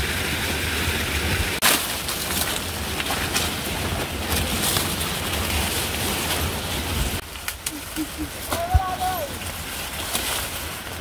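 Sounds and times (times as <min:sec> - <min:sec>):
rain hissing: 0:00.0 - 0:11.0
wind rumble on microphone: 0:00.0 - 0:11.0.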